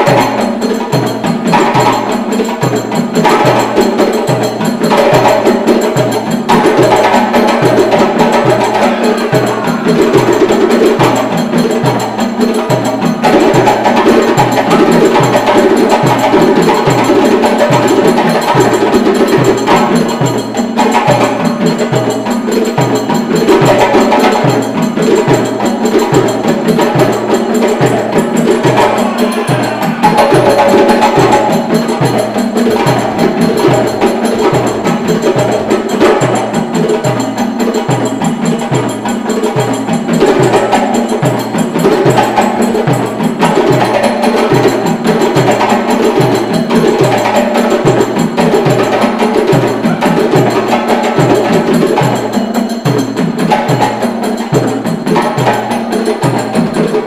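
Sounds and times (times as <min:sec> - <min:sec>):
djembe slaps and tones: 0:00.0 - 0:57.0.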